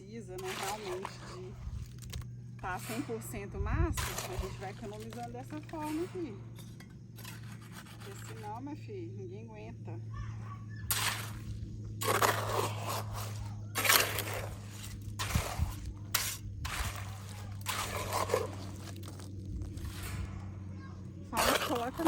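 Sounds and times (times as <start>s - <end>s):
mortar scraping and crunching: 0.0s - 8.8s, 10.8s - 22.0s.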